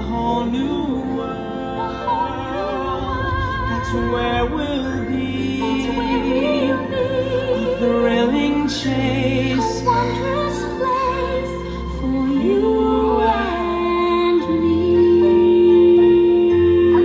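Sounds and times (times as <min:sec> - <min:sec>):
music accompaniment: 0:00.0 - 0:17.0
person singing: 0:00.0 - 0:17.0.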